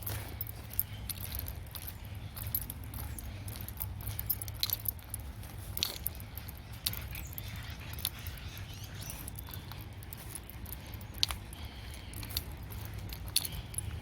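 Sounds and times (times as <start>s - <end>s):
footsteps on muddy trail: 0.0s - 14.0s
steady low rumble: 0.0s - 14.0s.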